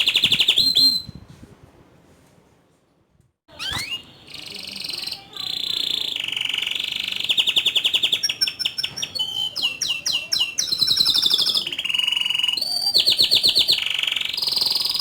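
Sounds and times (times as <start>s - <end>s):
canary singing trills: 0.0s - 1.2s, 3.5s - 15.0s.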